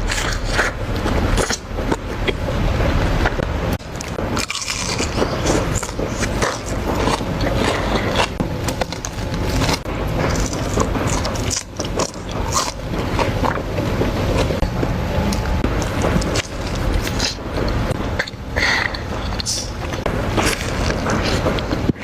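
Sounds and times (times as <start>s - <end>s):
chewing crunches: 0.0s - 2.4s, 3.8s - 22.0s
steady low rumble: 0.0s - 22.0s.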